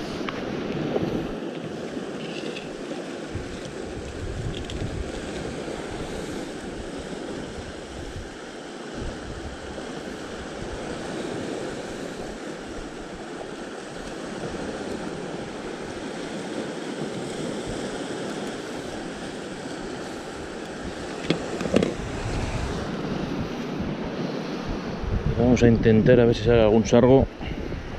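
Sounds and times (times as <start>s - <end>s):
surf washing against rocks: 0.0s - 27.9s
wind buffeting microphone: 0.0s - 27.9s.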